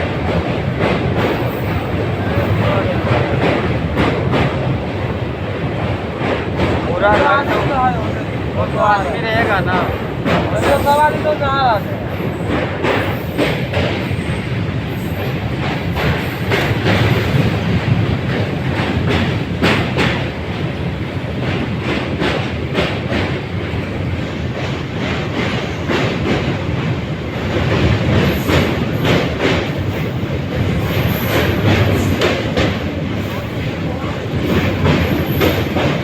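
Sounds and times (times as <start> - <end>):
train rumbling over bridge: 0.0 - 36.0
wheels clacking over rail joints: 0.0 - 36.0.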